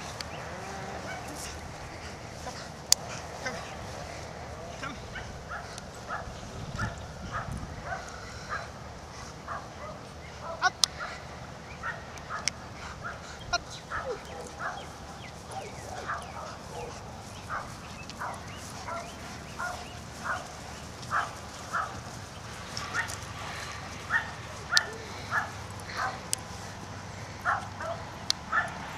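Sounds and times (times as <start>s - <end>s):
dog barking and yipping: 0.0s - 3.8s, 4.7s - 8.7s, 9.5s - 11.2s, 11.8s - 22.1s, 22.8s - 23.2s, 24.0s - 26.3s, 27.4s - 28.8s.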